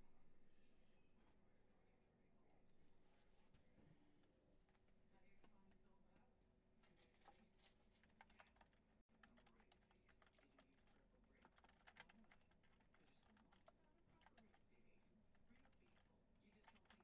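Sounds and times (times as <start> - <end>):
faint keyboard typing: 3.0 - 17.0.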